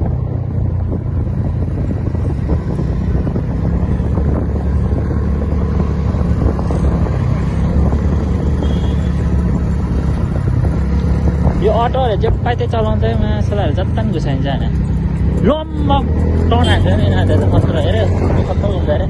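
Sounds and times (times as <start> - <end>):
motorcycle engine and road noise: 0.0 - 19.0
wind buffeting microphone: 0.0 - 19.0.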